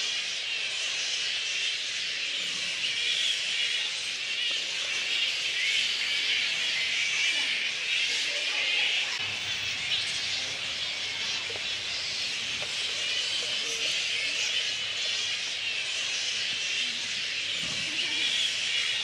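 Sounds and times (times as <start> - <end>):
flying foxes squeaking and chattering: 0.0 - 19.0.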